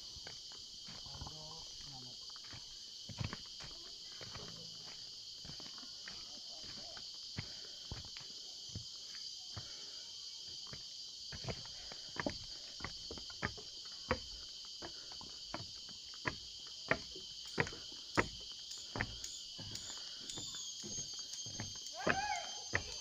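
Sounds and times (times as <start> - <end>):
insect chorus: 0.0 - 23.0.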